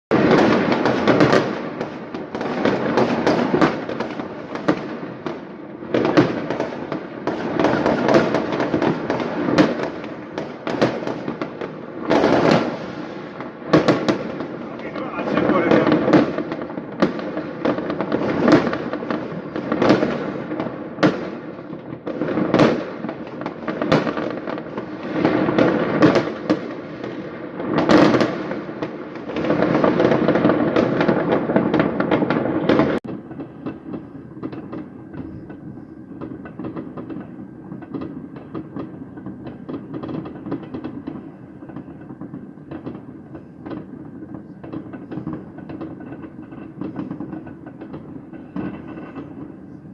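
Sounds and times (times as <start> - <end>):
fireworks bangs and crackling: 0.1 - 49.9.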